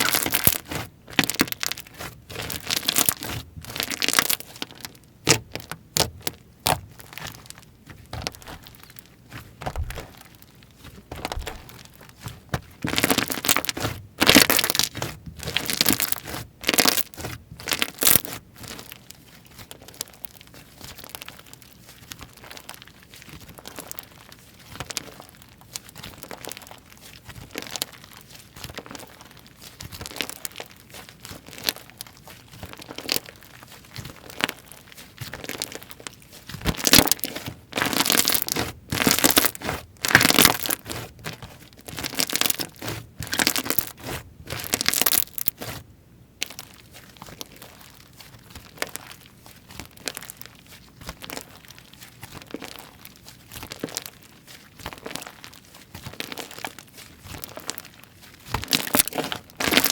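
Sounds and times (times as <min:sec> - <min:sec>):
slime squished by hand: 0:00.0 - 0:59.9.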